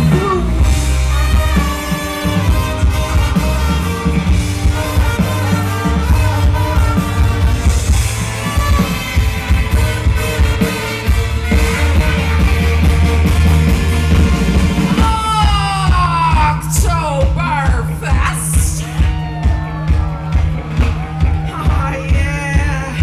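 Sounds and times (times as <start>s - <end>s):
driving drum beat: 0.0s - 23.0s
heavy bass: 0.0s - 23.0s
live band playing loud music: 0.0s - 23.0s.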